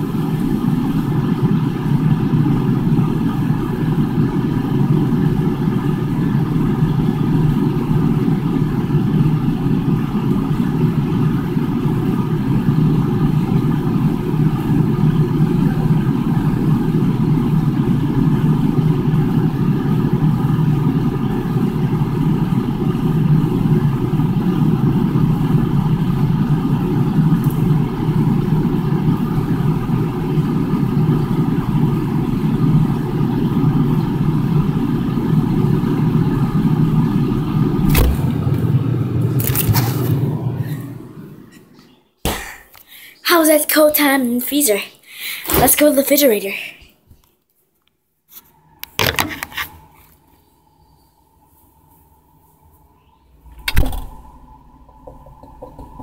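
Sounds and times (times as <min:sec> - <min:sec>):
refrigerator fan and compressor hum: 0:00.0 - 0:47.3, 0:48.3 - 0:56.0.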